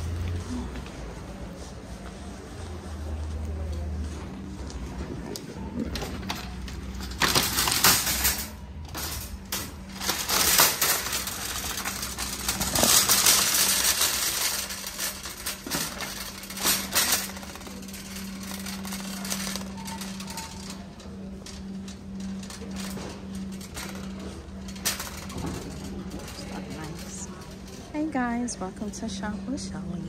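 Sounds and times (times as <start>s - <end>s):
metal shopping cart rattling: 4.9s - 30.0s.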